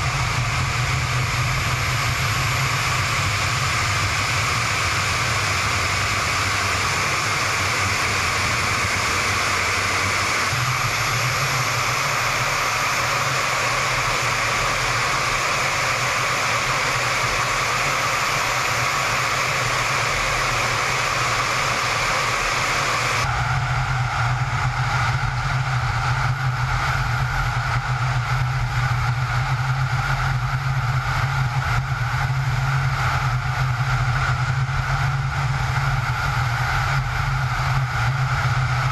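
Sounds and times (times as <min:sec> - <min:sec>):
jet engine and airflow noise: 0:00.0 - 0:38.9.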